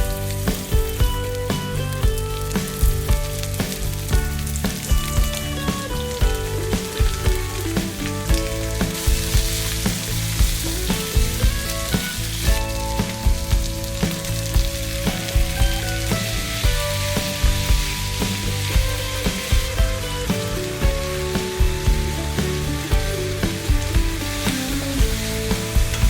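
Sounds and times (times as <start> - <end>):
background music with beat: 0.0 - 26.0
meat sizzling in a pan: 0.0 - 26.0.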